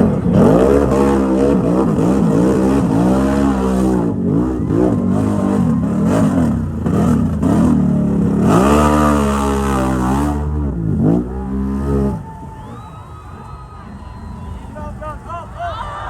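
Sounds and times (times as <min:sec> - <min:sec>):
atv engine revving: 0:00.0 - 0:14.8.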